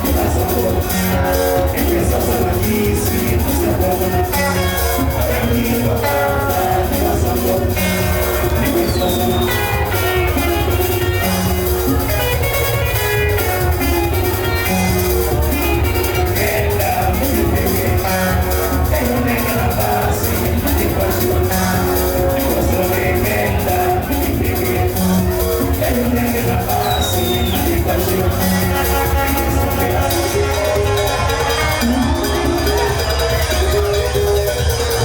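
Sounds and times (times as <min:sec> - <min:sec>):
live band music: 0:00.0 - 0:35.0
quick plucked guitar lines: 0:00.0 - 0:35.0.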